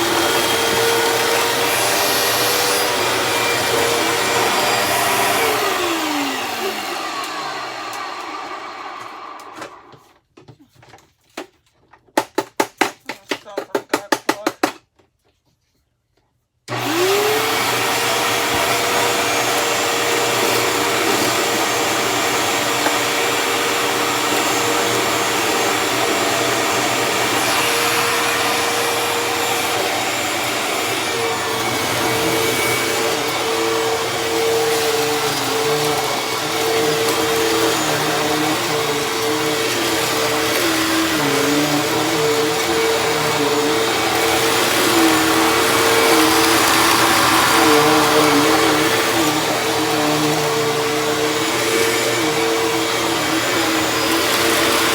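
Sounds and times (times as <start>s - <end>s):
vacuum cleaner motor whine: 0.0s - 10.0s, 16.7s - 54.9s.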